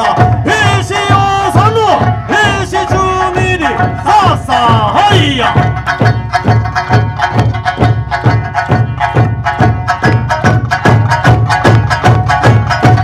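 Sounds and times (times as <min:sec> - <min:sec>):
deep barrel drum thumps: 0:00.0 - 0:13.0
folk music accompaniment: 0:00.0 - 0:13.0.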